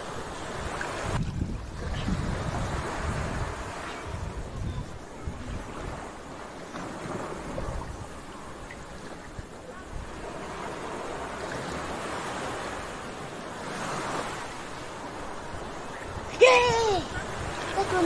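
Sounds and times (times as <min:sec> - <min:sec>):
sea waves washing: 0:00.0 - 0:18.0
wind rumbling on microphone: 0:00.0 - 0:18.0.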